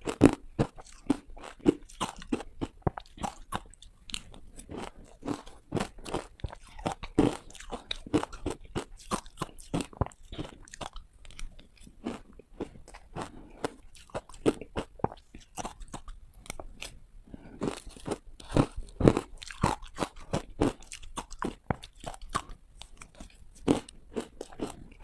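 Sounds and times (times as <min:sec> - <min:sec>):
teeth crunching hard ice: 0:00.0 - 0:16.9, 0:17.6 - 0:25.0.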